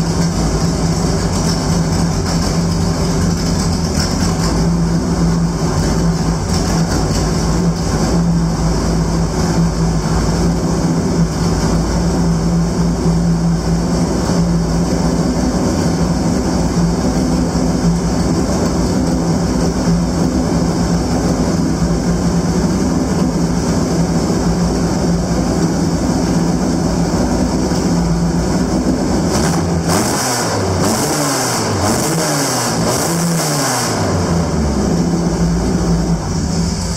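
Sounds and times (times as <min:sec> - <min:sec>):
racing car engine idling and revving: 0:00.0 - 0:36.9.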